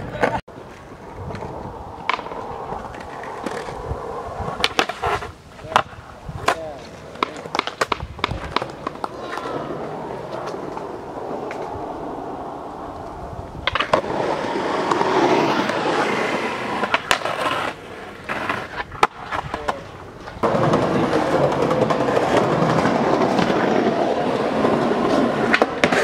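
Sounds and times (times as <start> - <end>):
skateboard clacking on ground: 0.0 - 26.0
skateboard wheels rolling on pavement: 0.0 - 26.0.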